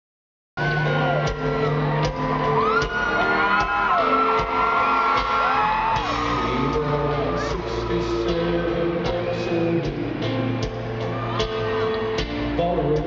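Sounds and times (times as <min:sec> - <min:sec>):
fans whooping and shouting: 0:00.6 - 0:12.3
live country band and singer: 0:00.6 - 0:13.0
steady drum beat: 0:00.6 - 0:13.0.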